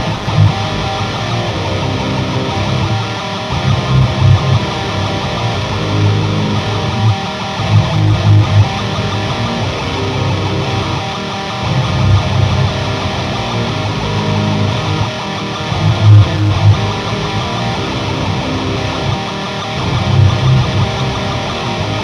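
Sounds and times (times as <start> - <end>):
electric guitar chugs and chords: 0.0 - 22.0.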